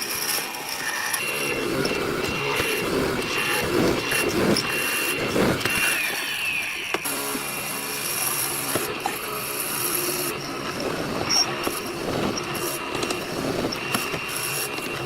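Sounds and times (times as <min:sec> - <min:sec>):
woodworking power tool running: 0:00.0 - 0:15.0.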